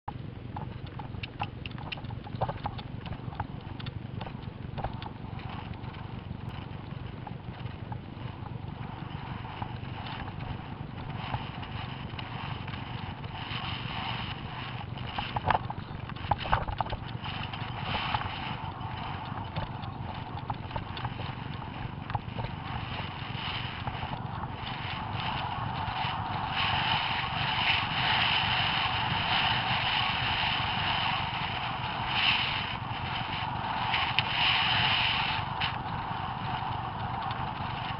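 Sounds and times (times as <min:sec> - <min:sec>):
steady low rumble: 0:00.1 - 0:37.9
horse hoofbeats: 0:00.2 - 0:31.7.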